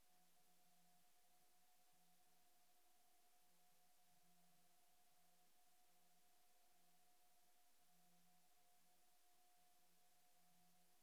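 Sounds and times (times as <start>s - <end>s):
faint constant tone: 0.0s - 11.0s
faint steady hiss: 0.0s - 11.0s.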